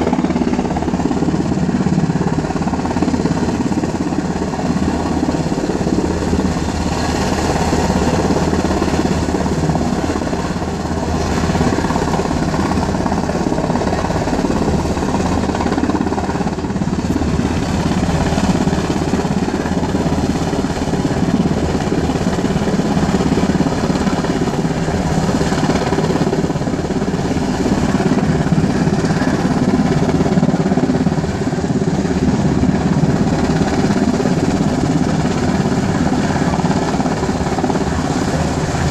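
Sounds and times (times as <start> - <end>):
helicopter flying past: 0.0 - 38.9.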